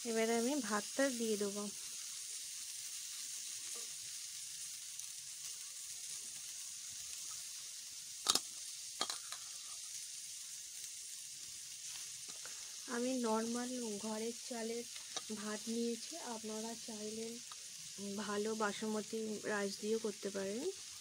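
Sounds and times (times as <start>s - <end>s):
vegetables and egg sizzling in wok: 0.0s - 21.0s.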